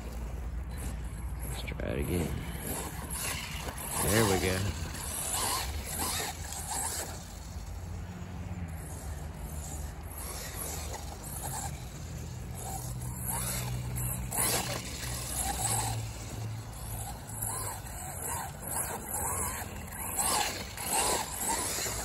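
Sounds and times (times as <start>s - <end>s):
rc truck motor whining: 0.0s - 22.0s.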